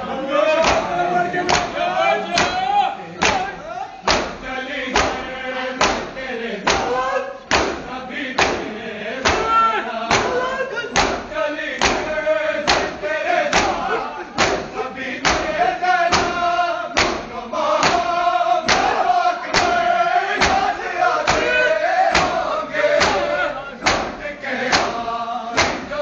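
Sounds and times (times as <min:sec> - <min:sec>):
male chorus chanting: 0:00.0 - 0:26.0
men slapping chests in unison: 0:00.6 - 0:26.0.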